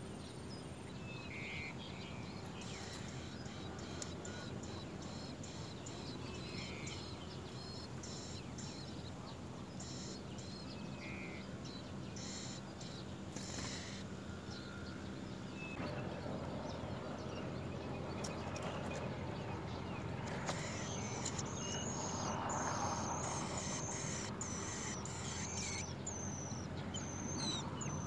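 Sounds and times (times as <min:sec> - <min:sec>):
nestlings chirping: 0:01.2 - 0:15.8, 0:18.1 - 0:28.0.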